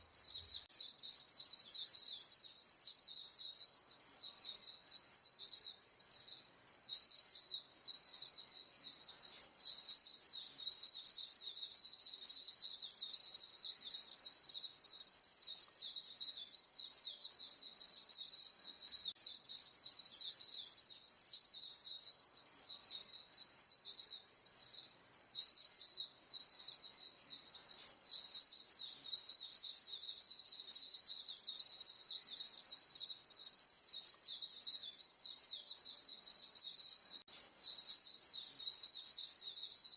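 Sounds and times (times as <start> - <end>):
birds chirping high and thin: 0.0 - 39.9.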